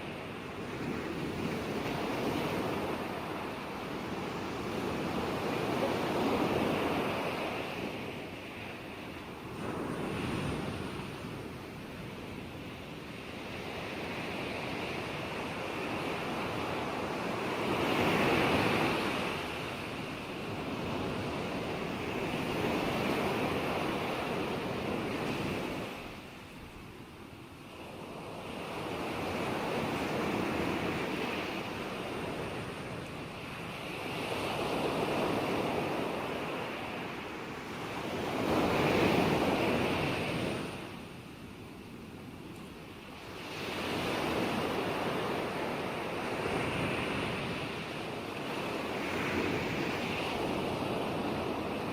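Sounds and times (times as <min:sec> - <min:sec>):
ocean waves breaking: 0:00.0 - 0:26.8, 0:27.8 - 0:41.5, 0:42.1 - 0:51.9.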